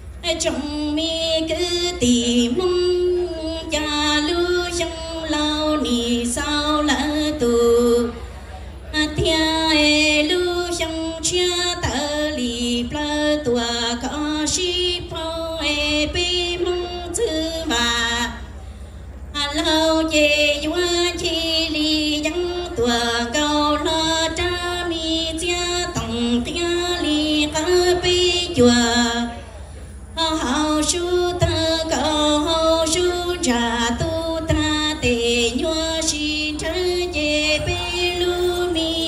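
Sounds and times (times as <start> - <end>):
woman singing unaccompanied: 0.2 - 8.2, 8.9 - 18.4, 19.3 - 29.4, 30.2 - 39.0.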